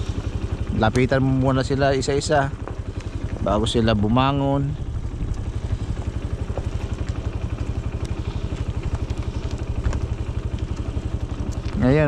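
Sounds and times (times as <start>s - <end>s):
small motorbike engine puttering: 0.0s - 12.0s.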